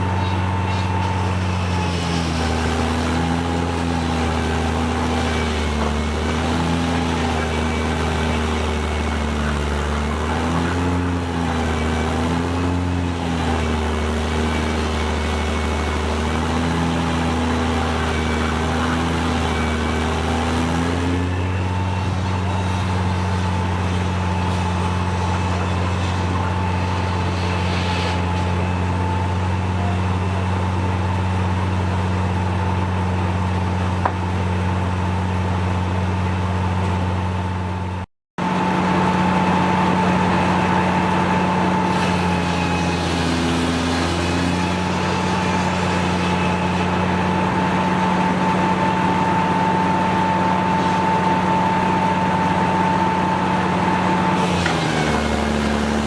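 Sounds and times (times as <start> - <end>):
steam-driven sawmill humming: 0.0 - 56.0.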